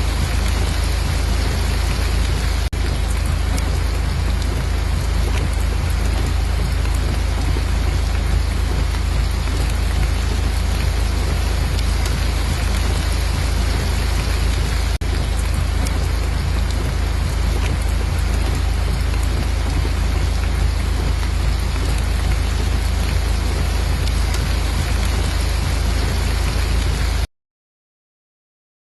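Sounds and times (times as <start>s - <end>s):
deep low rumble: 0.0s - 27.2s
steady rain: 0.0s - 27.3s.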